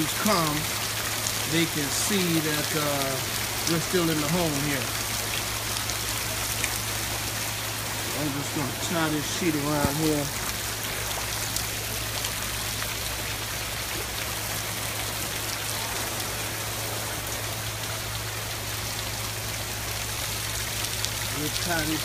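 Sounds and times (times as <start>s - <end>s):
rain falling onto water: 0.0s - 22.0s.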